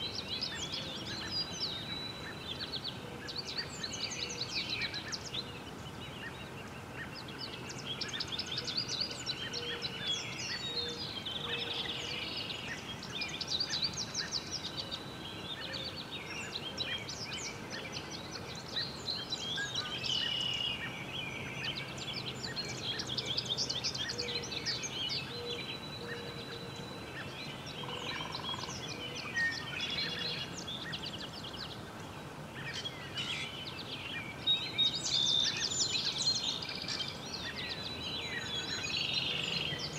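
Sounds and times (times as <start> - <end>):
faint background noise: 0.0 - 39.9
songbirds chirping and trilling: 0.0 - 39.9.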